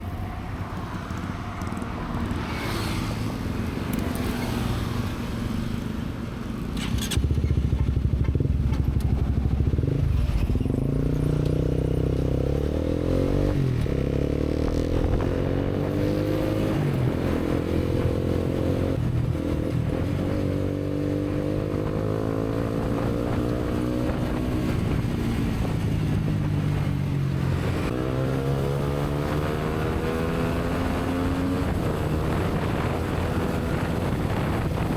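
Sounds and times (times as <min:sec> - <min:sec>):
motorcycle engine revving: 0:06.8 - 0:34.9.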